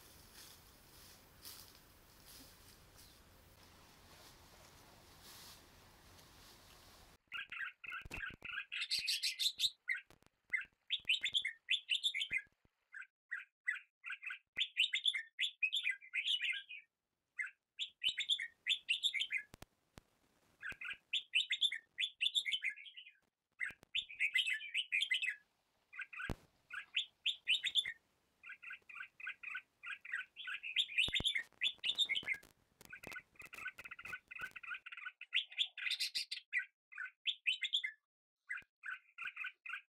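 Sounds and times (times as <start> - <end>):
songbird chirping: 0.1 - 19.6, 20.6 - 39.9.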